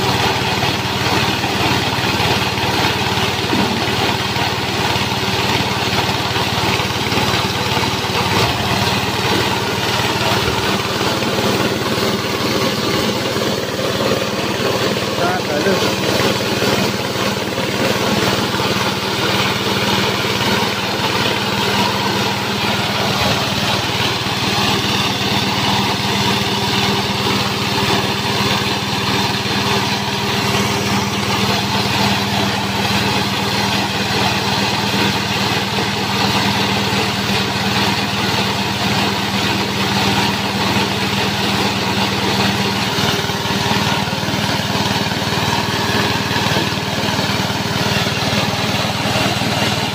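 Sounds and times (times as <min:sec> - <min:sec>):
grass chopper engine running: 0:00.0 - 0:49.9.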